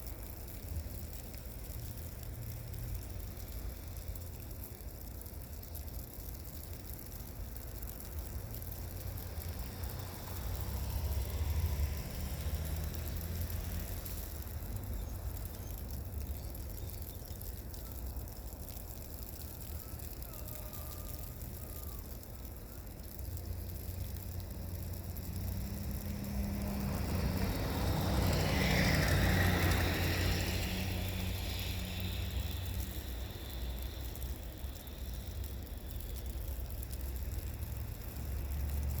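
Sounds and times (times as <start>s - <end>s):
tyre noise on snowy road: 0.0s - 3.6s, 7.7s - 39.0s
low road rumble: 0.0s - 20.4s, 21.1s - 39.0s.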